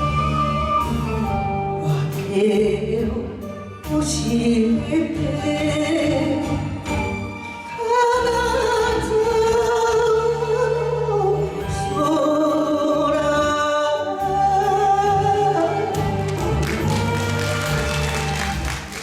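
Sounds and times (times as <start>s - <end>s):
woman singing with vibrato: 1.1s - 17.3s.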